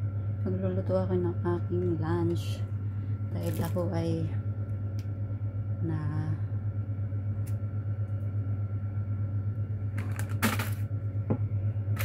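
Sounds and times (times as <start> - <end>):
steady low motor hum: 0.0 - 12.0.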